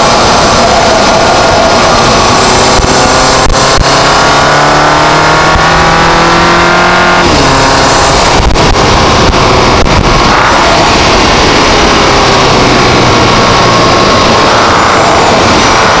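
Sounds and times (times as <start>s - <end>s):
car engine revving under load: 0.0s - 16.0s.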